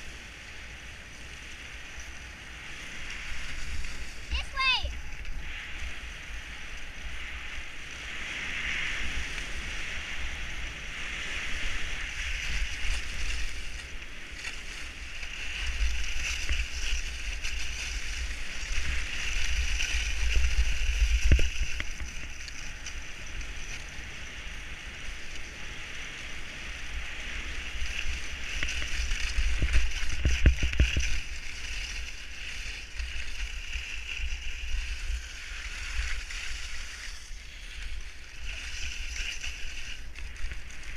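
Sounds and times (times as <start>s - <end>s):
skis scraping on snow: 0.0s - 40.9s
wind buffeting microphone: 2.0s - 40.9s.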